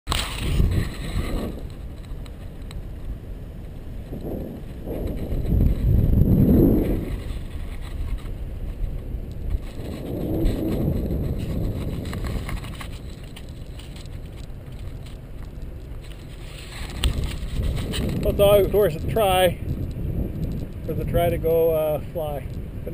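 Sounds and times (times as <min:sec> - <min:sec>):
wind buffeting microphone: 0:00.1 - 0:22.9.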